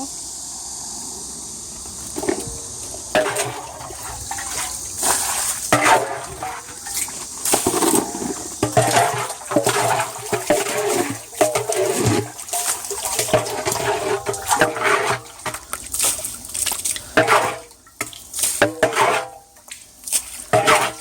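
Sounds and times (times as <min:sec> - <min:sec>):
water pouring into a jar: 0:03.1 - 0:21.0.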